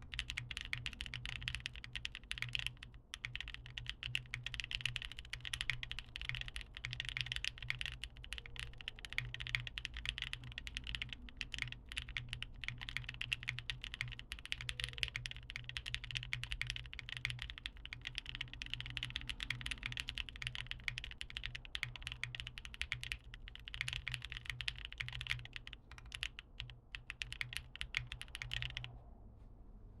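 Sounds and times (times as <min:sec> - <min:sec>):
typing on mechanical keyboard: 0:00.0 - 0:28.9.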